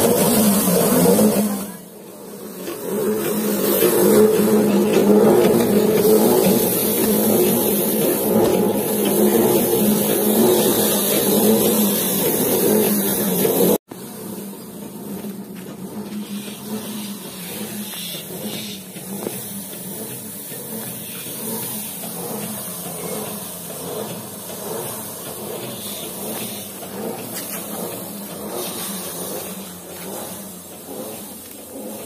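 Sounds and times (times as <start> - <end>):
thresher engine running: 0.0 - 32.0.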